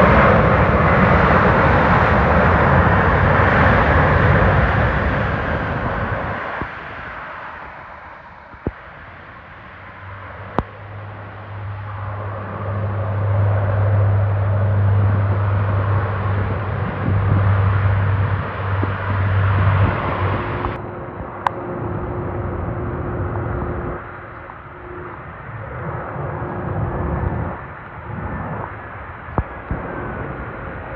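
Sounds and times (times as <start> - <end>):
jet engines roaring past: 0.0 - 30.9.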